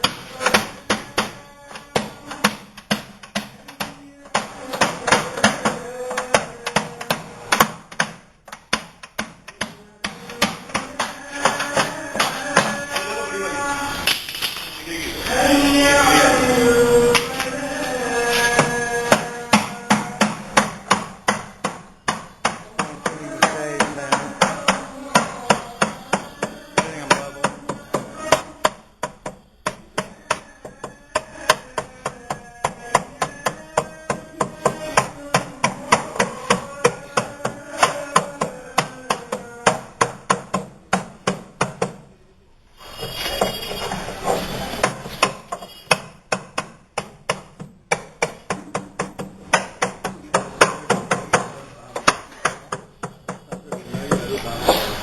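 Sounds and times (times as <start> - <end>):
hammer striking metal hoops: 0.0 - 13.2, 17.1 - 42.1, 42.8 - 55.0.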